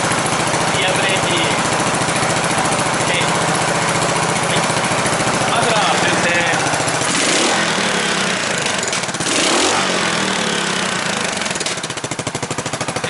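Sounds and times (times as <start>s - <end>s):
motorcycle engine pulsing: 0.0s - 13.0s.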